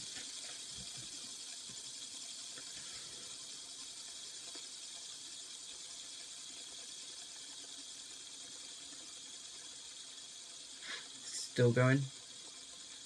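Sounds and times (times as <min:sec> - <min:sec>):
fidget spinner bearing hissing: 0:00.0 - 0:13.0.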